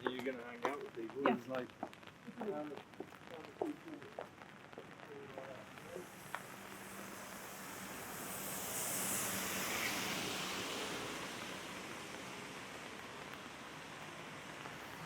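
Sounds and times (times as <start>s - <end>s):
steady rain: 0.0s - 15.0s
tyres hissing on wet road: 2.4s - 15.0s.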